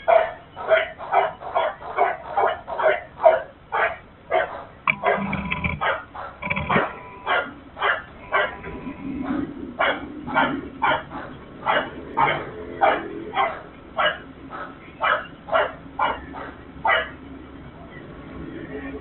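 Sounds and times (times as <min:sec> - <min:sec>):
dog barking: 0:00.0 - 0:17.2.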